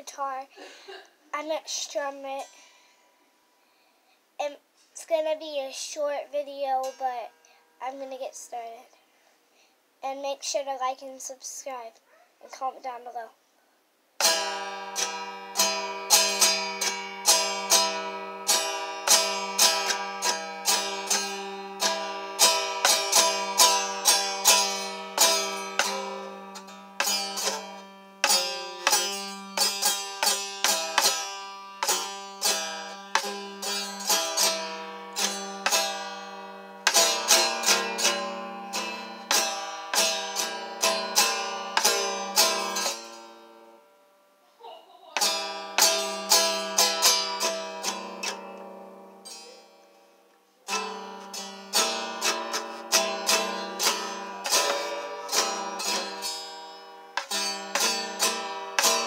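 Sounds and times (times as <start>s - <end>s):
acoustic guitar strumming: 0.1s - 3.1s, 4.4s - 8.8s, 14.2s - 44.4s, 45.2s - 59.0s.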